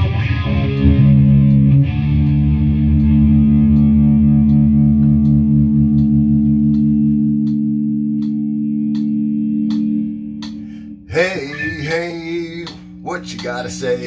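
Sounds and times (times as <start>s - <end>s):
distorted electric guitar chord: 0.0s - 14.0s.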